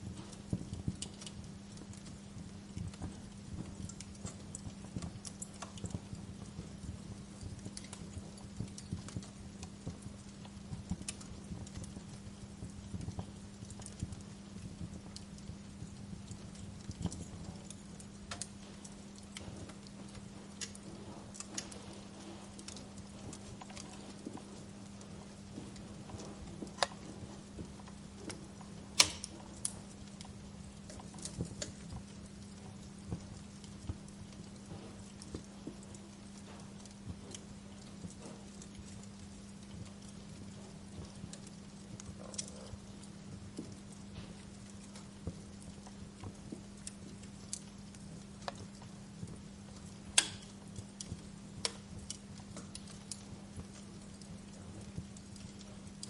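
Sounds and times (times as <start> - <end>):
steady low hum: 0.0 - 56.0
wood fire crackling: 0.0 - 56.0.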